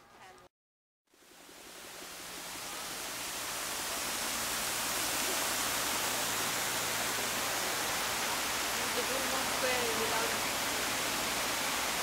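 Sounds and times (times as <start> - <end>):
steady outdoor hiss: 1.1 - 12.0.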